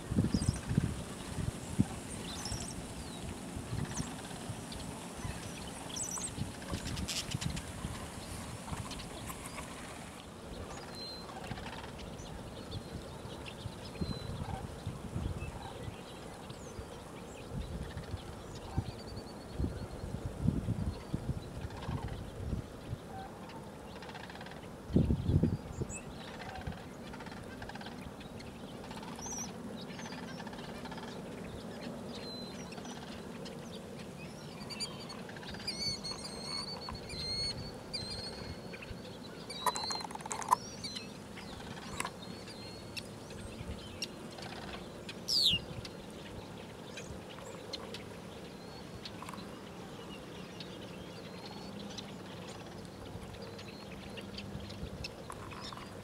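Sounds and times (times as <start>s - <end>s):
cranes and birds calling: 0.0s - 20.1s, 20.9s - 56.0s.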